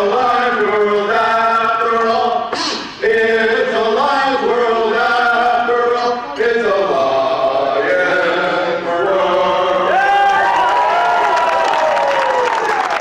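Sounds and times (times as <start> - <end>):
men singing a cappella in harmony: 0.0 - 10.6.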